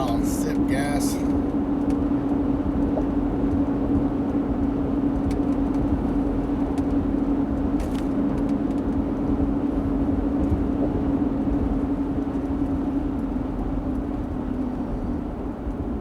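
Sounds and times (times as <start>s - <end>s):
truck in-cabin road noise: 0.0s - 16.0s.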